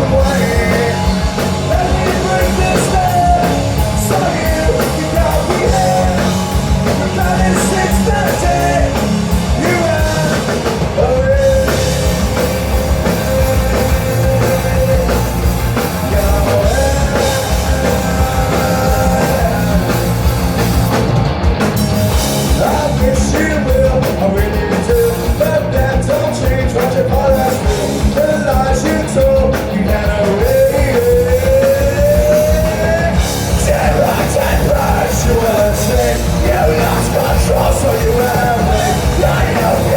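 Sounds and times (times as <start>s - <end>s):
lead singer singing: 0.0s - 20.8s, 22.2s - 39.9s
rock band playing: 0.0s - 39.9s.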